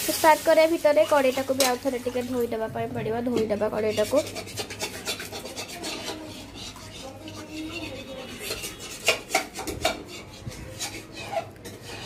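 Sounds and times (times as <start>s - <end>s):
metal pots clinking and scraping: 1.0s - 2.0s, 3.0s - 12.0s.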